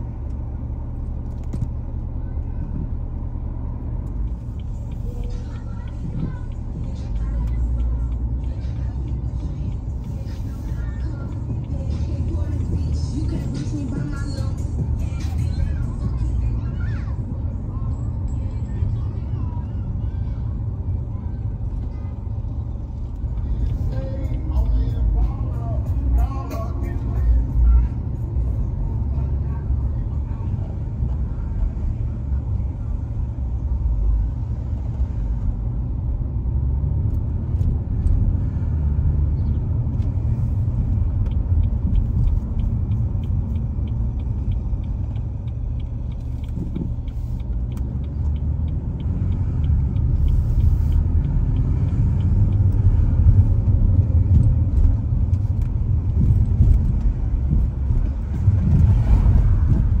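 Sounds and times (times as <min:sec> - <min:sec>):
car driving road noise: 0:00.0 - 1:00.0.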